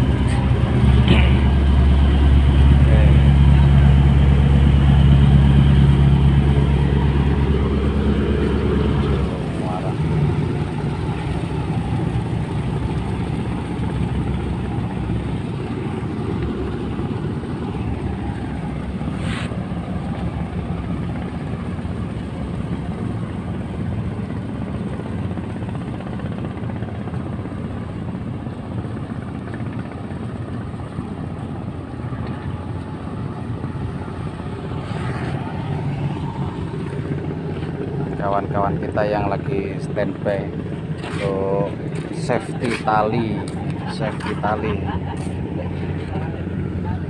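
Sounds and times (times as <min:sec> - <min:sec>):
boat diesel engine droning: 0:00.0 - 0:47.0
propeller churning water: 0:00.0 - 0:47.0.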